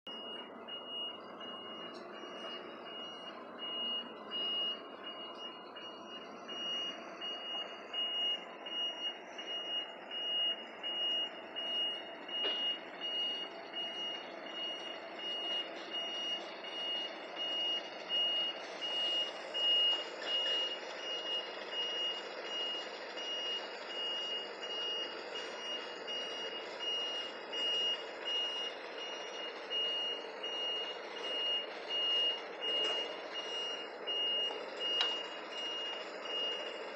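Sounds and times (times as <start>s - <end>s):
heavy vehicle engine running: 0.1s - 36.9s
reversing alarm beeping: 0.1s - 36.9s.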